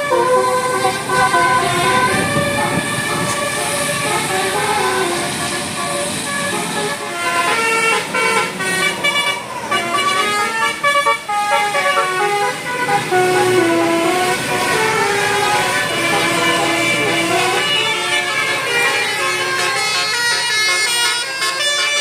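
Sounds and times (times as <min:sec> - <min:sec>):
bus horn playing a tune: 0:00.0 - 0:22.0.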